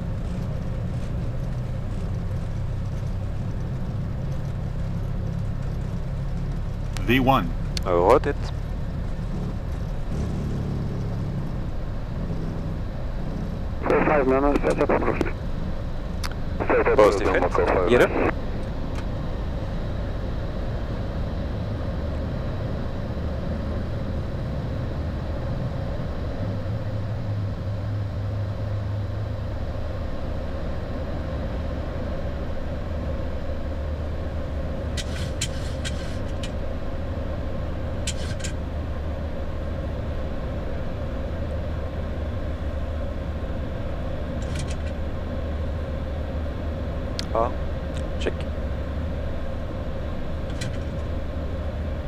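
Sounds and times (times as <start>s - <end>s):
airflow and engine rumble: 0.0s - 52.0s.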